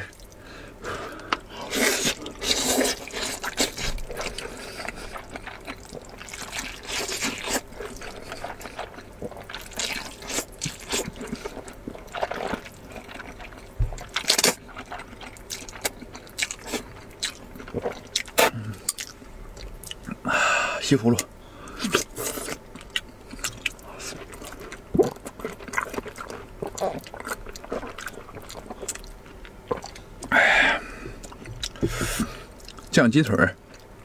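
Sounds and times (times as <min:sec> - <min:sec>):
wet noodles squishing: 0:00.0 - 0:20.3, 0:21.0 - 0:34.0.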